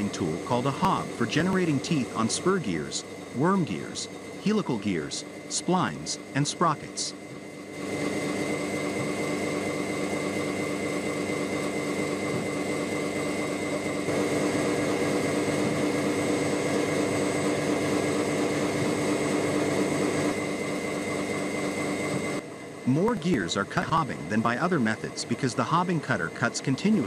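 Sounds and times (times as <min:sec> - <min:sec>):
gear cutting machine whirring: 0:00.0 - 0:27.0.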